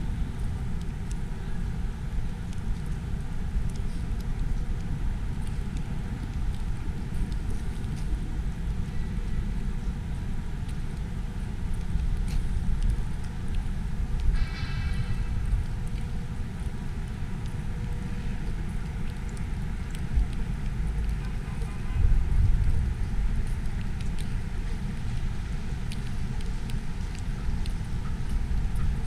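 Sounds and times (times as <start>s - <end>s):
city traffic rumble: 0.0s - 29.0s
wind buffeting microphone: 0.0s - 29.0s.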